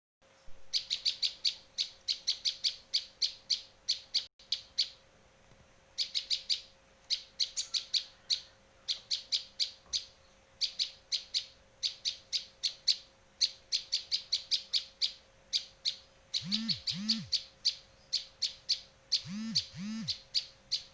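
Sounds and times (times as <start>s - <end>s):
bird sharp high chirps: 0.7s - 5.0s, 6.0s - 20.9s
faint steady hum: 3.7s - 20.9s.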